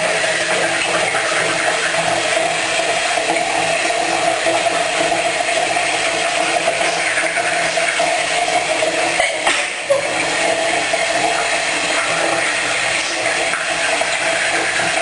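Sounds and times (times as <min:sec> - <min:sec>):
electric toothbrush buzzing: 0:00.0 - 0:15.0.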